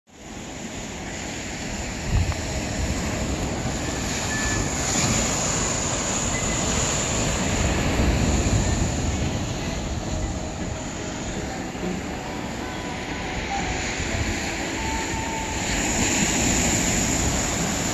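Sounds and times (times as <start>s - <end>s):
surf breaking over rocks: 0.6s - 17.9s.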